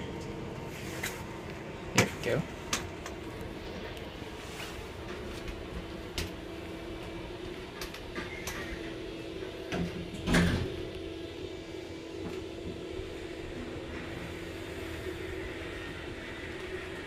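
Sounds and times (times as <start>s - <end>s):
elevator hum: 0.0s - 17.0s.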